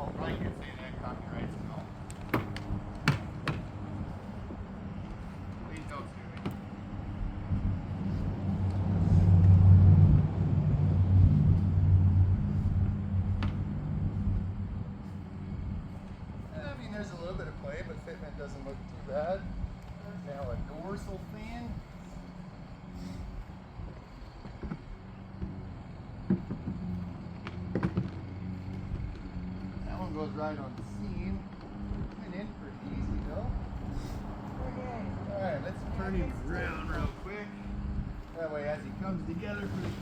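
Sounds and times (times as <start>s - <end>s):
low engine-like rumble: 0.0s - 40.0s
low hum: 0.0s - 40.0s.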